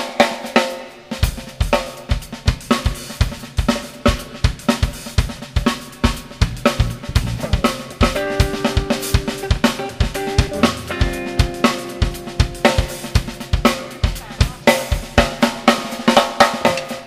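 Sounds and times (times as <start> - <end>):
drum kit playing: 0.0 - 17.0.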